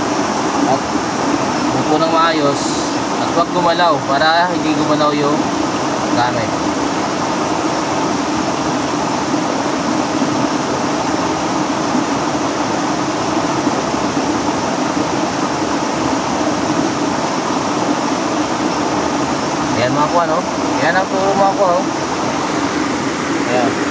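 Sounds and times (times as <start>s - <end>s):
stream flowing over rocks: 0.0s - 23.9s.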